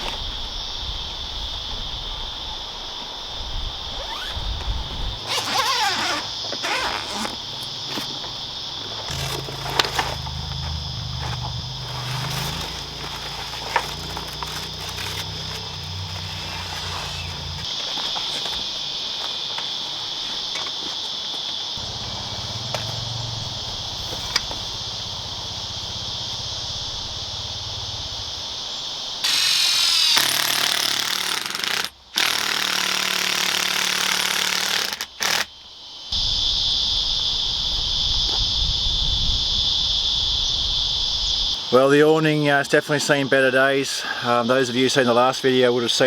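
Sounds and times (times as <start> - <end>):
insect chorus buzzing: 0.0 - 46.0.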